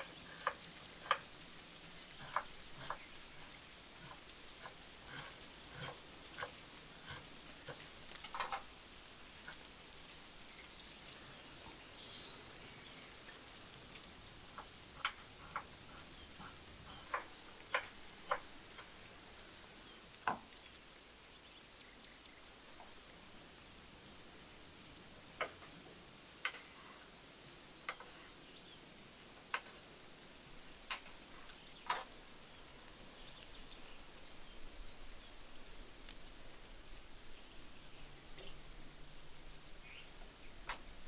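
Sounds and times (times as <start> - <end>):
faint outdoor hiss: 0.0 - 41.0.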